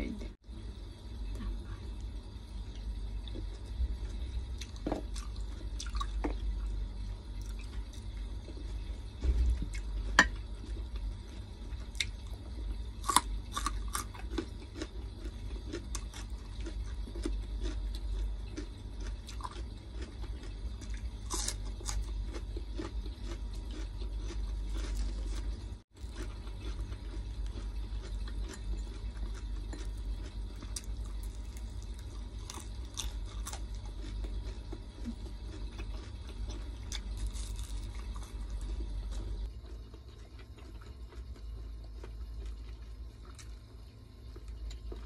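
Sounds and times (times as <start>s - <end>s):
steady low hum: 0.0s - 45.0s
person chewing food: 1.3s - 45.0s.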